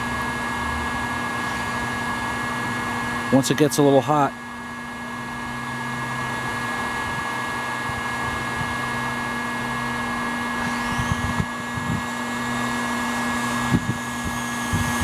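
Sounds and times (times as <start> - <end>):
heat gun humming and blowing: 0.0 - 15.0.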